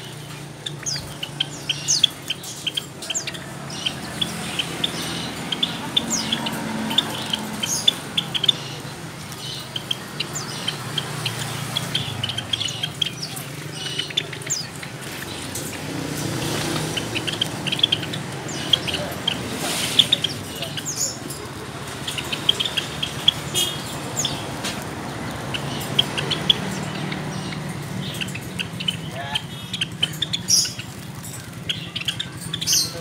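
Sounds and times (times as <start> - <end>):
caged sparrows chirping: 0.0 - 33.0.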